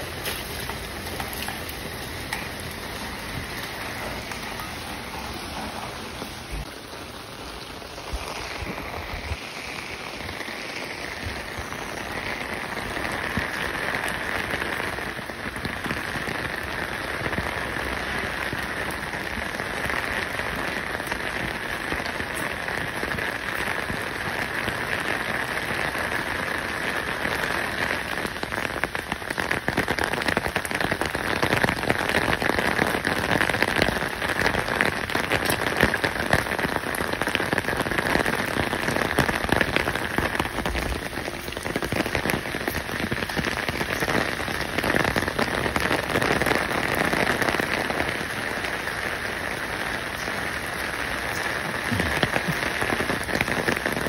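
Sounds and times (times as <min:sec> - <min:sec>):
water pattering like rain: 0:00.0 - 0:54.0.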